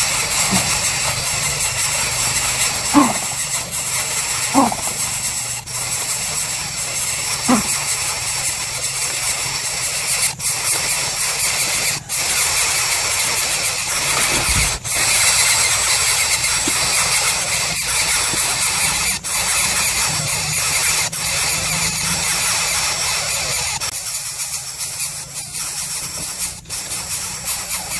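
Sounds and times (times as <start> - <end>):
chick harsh hissing screech: 0.0 - 27.9.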